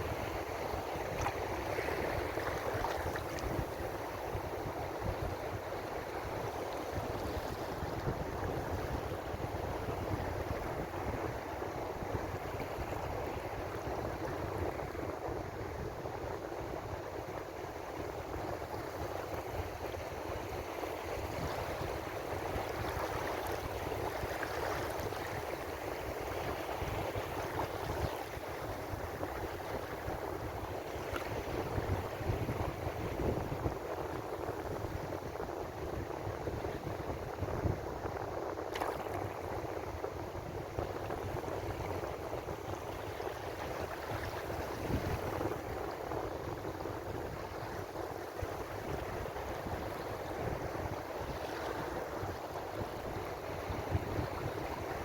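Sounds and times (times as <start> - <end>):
ocean waves washing ashore: 0.0 - 55.0.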